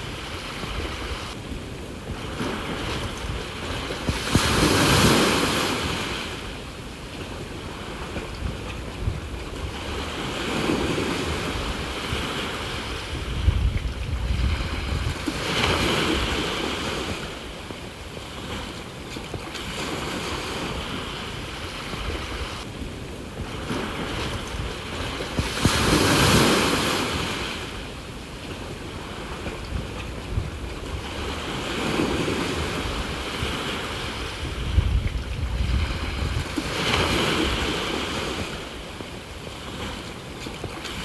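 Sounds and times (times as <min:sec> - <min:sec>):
sea waves washing onto shore: 0:00.0 - 0:41.0
wind buffeting microphone: 0:00.0 - 0:41.0.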